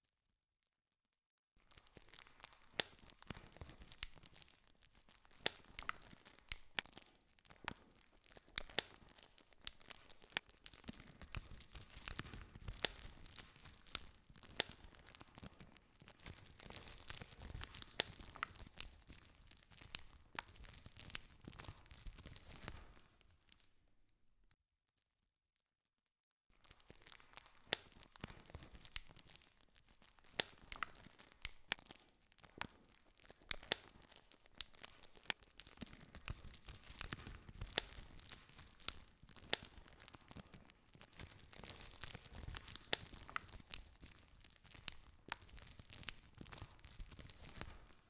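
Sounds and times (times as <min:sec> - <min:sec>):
campfire crackling and popping: 0:01.6 - 0:23.7, 0:26.6 - 0:48.0.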